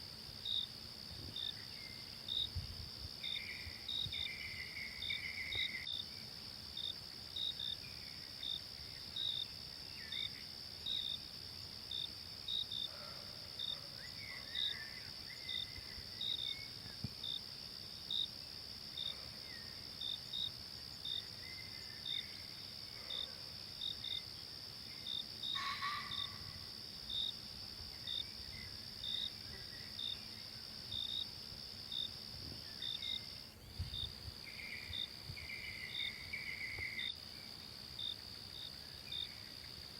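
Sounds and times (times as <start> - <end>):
insects droning and chirping: 0.0 - 39.9.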